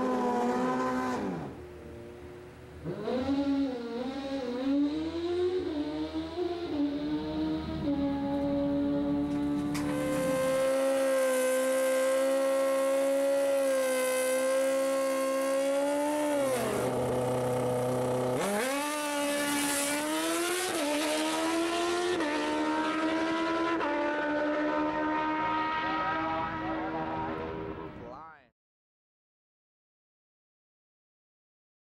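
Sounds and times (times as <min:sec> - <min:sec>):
motorcycle engine revving: 0:00.0 - 0:01.6, 0:02.8 - 0:28.0.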